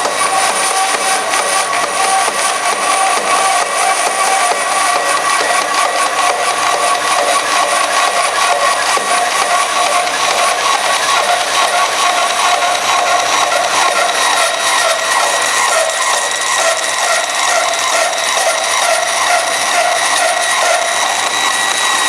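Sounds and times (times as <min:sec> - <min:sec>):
bandsaw cutting plastic sheet: 0:00.0 - 0:22.0.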